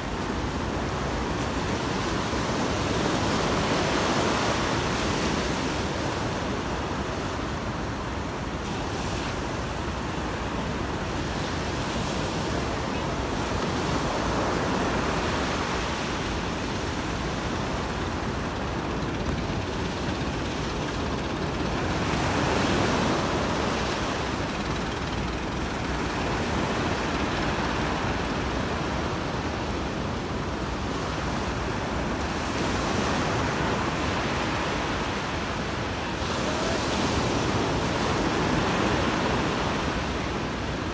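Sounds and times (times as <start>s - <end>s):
ocean surf breaking: 0.0s - 40.9s.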